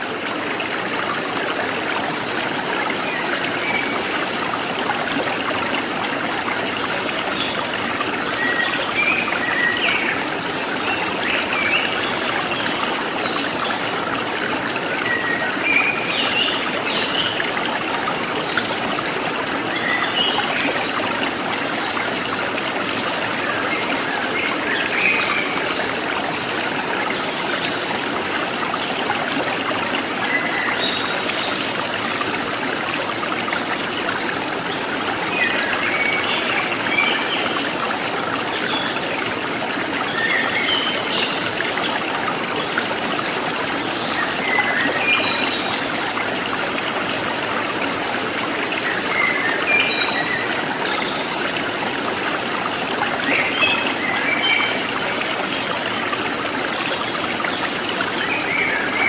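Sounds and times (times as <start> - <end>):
stream trickling and splashing: 0.0 - 59.0.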